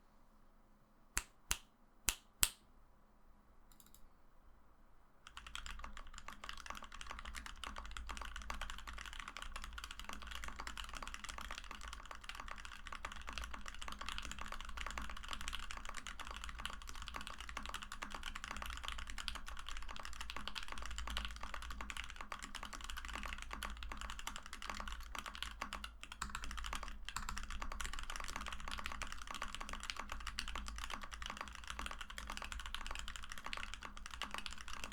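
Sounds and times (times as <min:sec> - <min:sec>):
fast typing on mechanical keyboard: 0:05.2 - 0:34.9.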